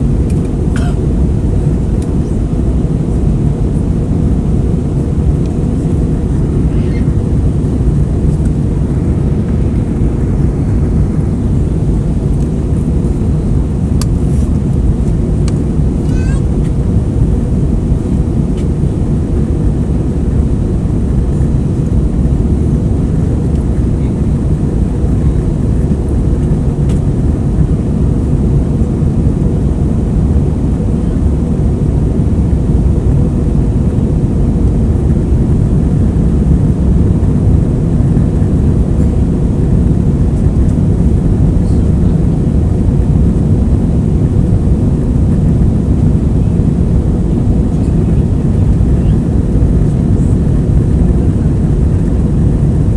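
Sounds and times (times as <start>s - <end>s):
jet engine cabin rumble: 0.0s - 52.9s.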